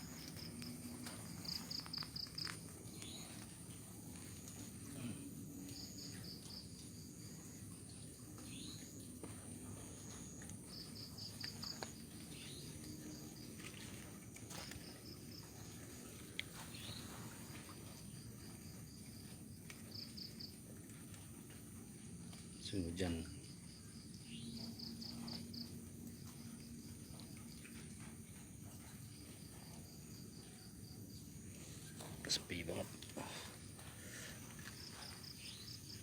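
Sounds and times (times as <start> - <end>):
crickets chirping: 0.0 - 36.0
steady high insect buzz: 0.0 - 36.0.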